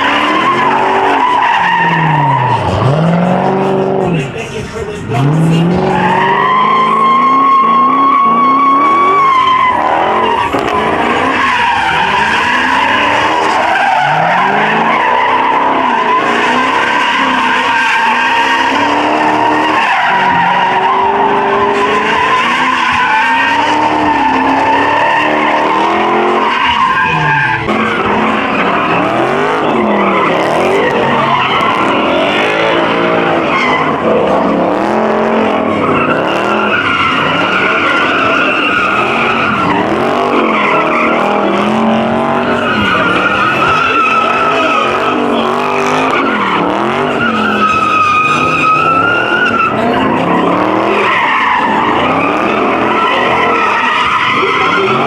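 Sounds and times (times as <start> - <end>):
car engine revving: 0.0 - 55.0
tyres squealing: 0.0 - 55.0.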